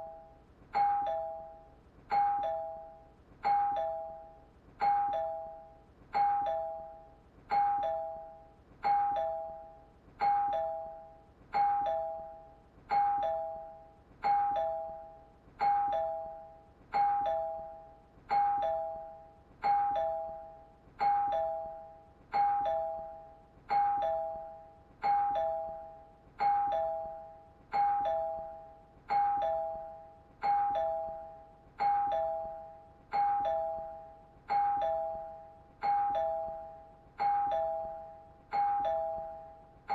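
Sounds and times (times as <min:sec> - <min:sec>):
ding-dong doorbell chime: 0:00.0 - 0:39.9.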